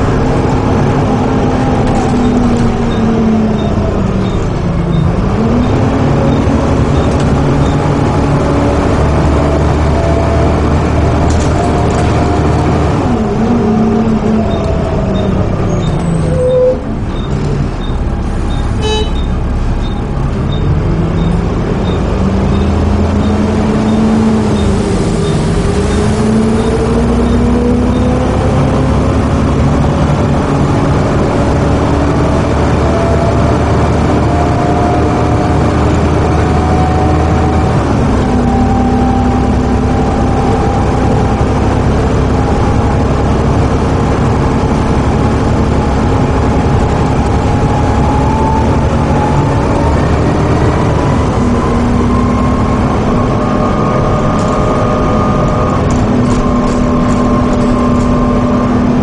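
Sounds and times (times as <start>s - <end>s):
bus diesel engine whining: 0.0s - 59.0s.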